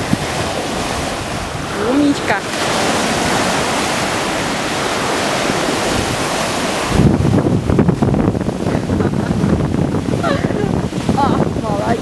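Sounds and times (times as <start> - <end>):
low rumble of waves: 0.0 - 12.0
surf hissing through shallows: 0.0 - 12.0
wind gusting on microphone: 0.0 - 12.0.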